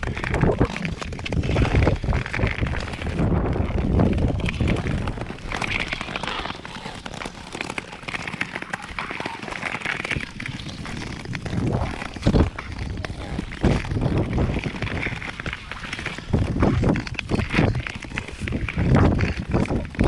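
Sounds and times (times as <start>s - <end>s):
skate blades scraping on ice: 0.0s - 20.0s
wind rumbling on microphone: 0.0s - 20.0s.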